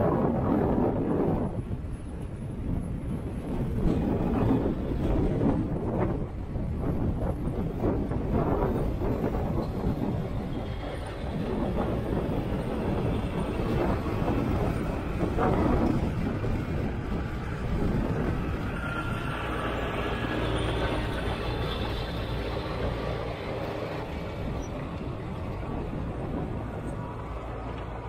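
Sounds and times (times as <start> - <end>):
diesel engines running: 0.0 - 28.0.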